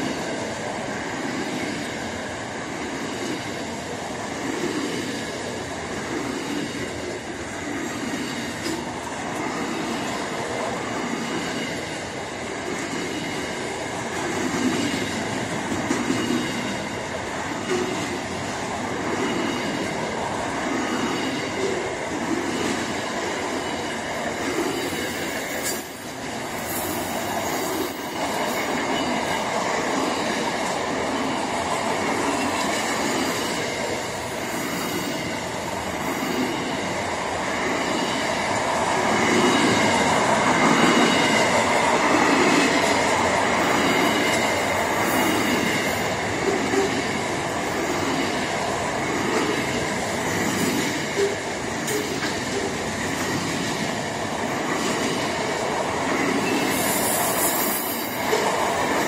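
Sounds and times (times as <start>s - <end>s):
freight train rumbling and rattling: 0.0s - 59.0s.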